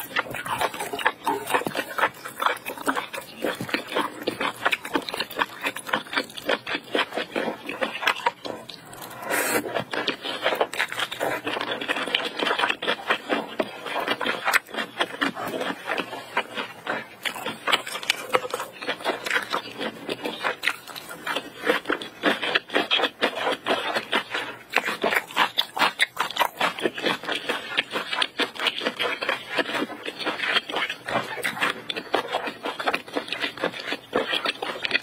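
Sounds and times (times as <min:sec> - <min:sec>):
person chewing with wet smacking: 0:00.0 - 0:35.0.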